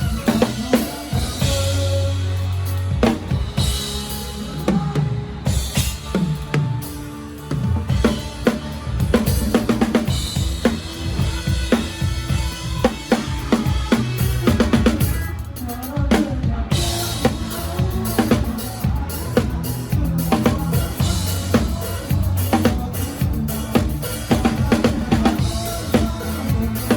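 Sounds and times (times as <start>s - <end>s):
bass line: 0.0s - 26.9s
drum kit playing: 0.0s - 26.9s.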